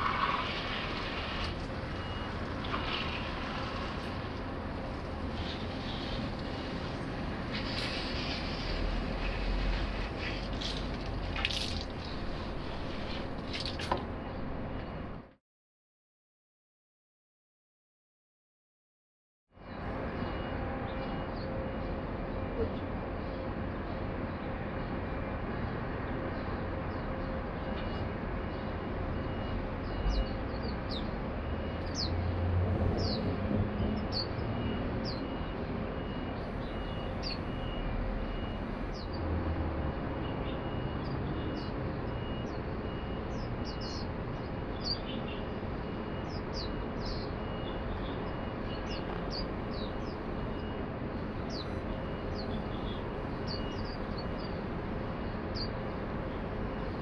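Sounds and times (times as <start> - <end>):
hum of city noise: 0.0 - 15.4, 19.5 - 57.0.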